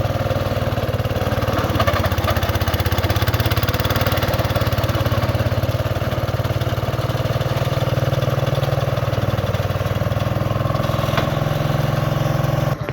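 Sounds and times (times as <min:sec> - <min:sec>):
skid steer engine idling: 0:00.0 - 0:12.9.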